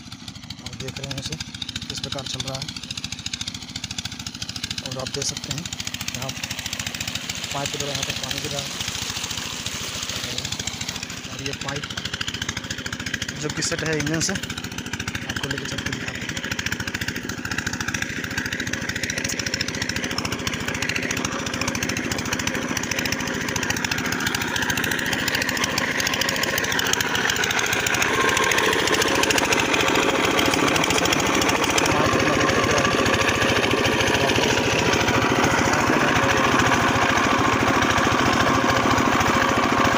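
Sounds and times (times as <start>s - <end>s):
diesel water pump engine running: 0.0s - 39.9s.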